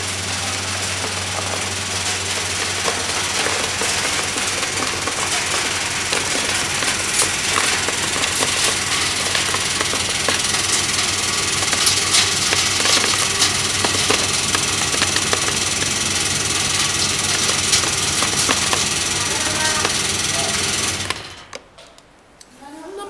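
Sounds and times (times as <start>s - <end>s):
peanuts ticking into a tray: 0.0s - 21.6s
machine motor hum and rattle: 0.0s - 22.1s.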